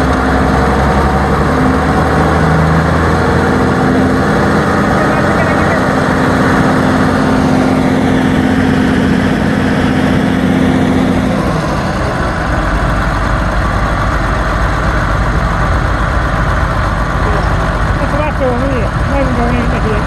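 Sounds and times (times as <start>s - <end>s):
tractor diesel engine: 0.0s - 20.0s.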